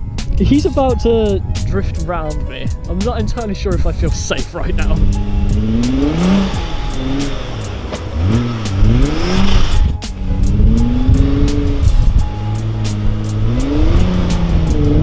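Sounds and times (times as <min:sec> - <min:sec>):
background music with beat: 0:00.0 - 0:15.0
car engine revving: 0:00.0 - 0:15.0.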